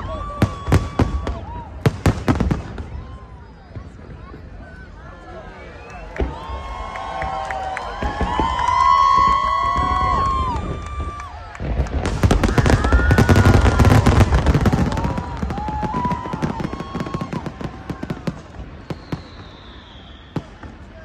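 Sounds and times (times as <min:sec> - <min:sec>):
fireworks shells booming and crackling: 0:00.0 - 0:04.6, 0:07.9 - 0:21.0.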